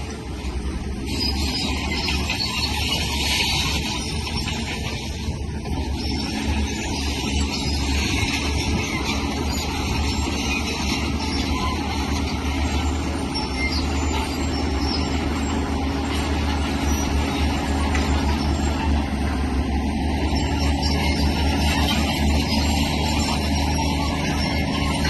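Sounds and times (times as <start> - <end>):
diesel engine deep rumble: 0.0 - 25.0.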